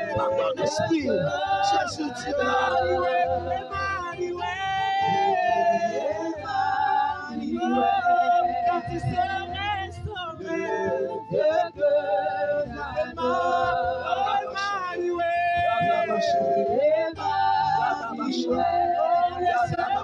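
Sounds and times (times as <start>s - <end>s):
women and man singing worship: 0.0s - 20.0s.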